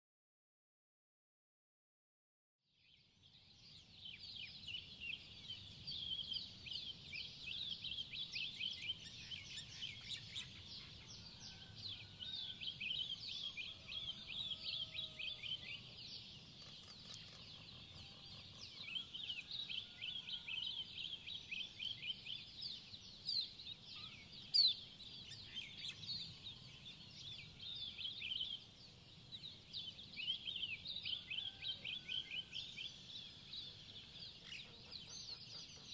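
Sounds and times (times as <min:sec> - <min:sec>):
birds chirping: 0:03.3 - 0:35.9.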